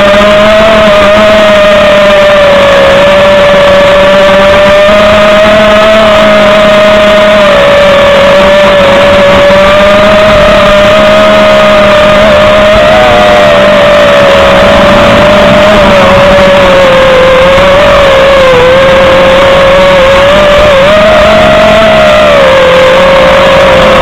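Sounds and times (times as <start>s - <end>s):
quadcopter motors buzzing: 0.0s - 24.0s.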